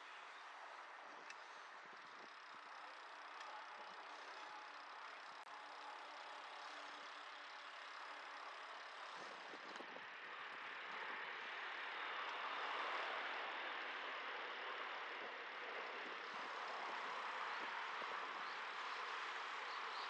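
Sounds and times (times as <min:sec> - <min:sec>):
street traffic rush: 0:00.0 - 0:20.0.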